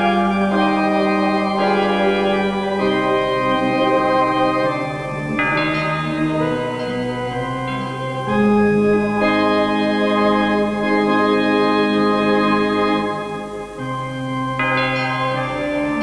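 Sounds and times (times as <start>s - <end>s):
organ playing held chords: 0.0s - 16.0s.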